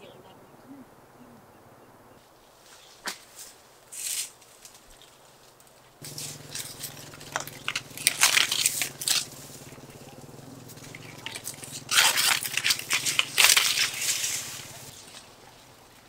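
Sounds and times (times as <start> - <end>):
leaves and twigs rustling: 2.2 - 16.0.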